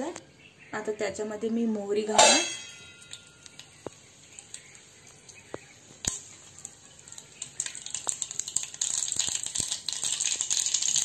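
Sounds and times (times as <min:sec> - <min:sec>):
oil crackling and sizzling: 0:00.0 - 0:11.0
mustard seeds popping in hot oil: 0:01.6 - 0:11.0.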